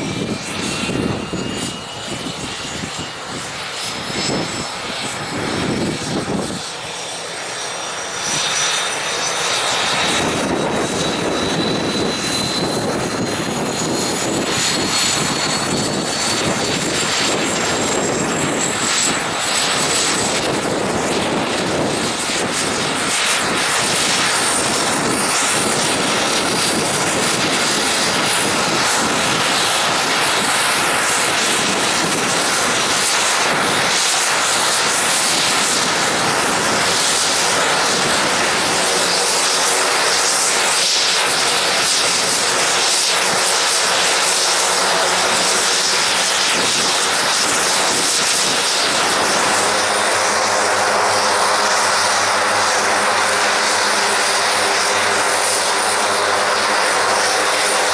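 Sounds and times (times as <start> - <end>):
high-pitched engine whine: 0.0 - 57.9
turboprop engine running: 0.0 - 57.9.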